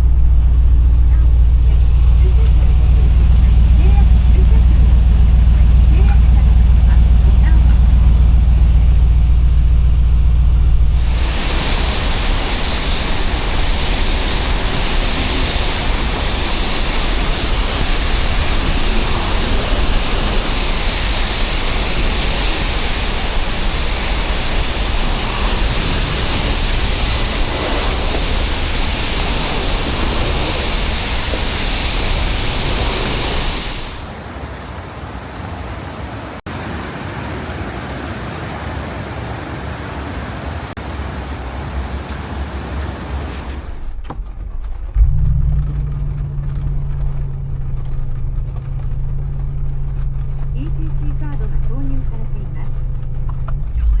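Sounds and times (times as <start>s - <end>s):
rain hiss: 0.0s - 44.2s, 45.4s - 54.0s
engine low rumble: 0.0s - 54.0s
wet road noise: 0.0s - 54.0s.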